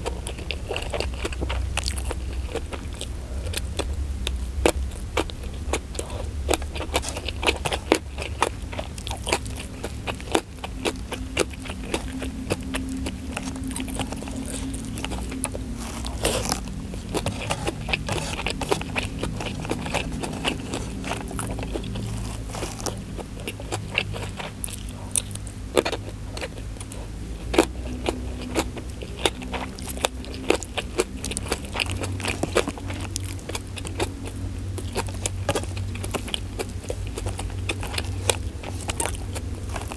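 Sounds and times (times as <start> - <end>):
chewing food: 0.0 - 39.9
low steady hum: 0.0 - 39.9.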